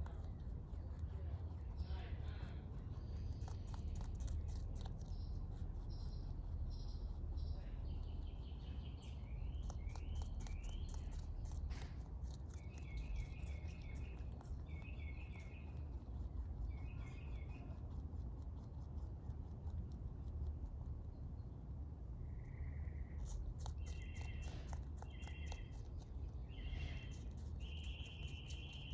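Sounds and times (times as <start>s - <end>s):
rabbit chewing: 0.0s - 28.9s
small birds chirping: 0.0s - 28.9s.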